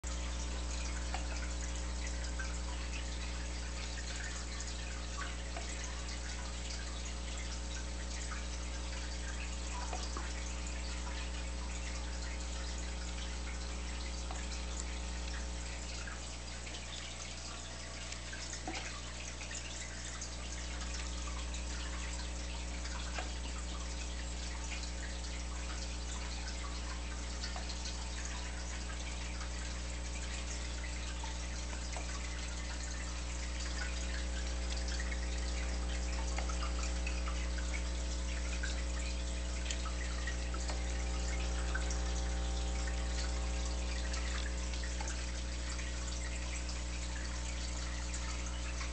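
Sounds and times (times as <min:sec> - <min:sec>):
aquarium air bubbles fizzing: 0:00.0 - 0:48.9
low steady hum: 0:00.0 - 0:48.9
trickling water: 0:00.0 - 0:48.9.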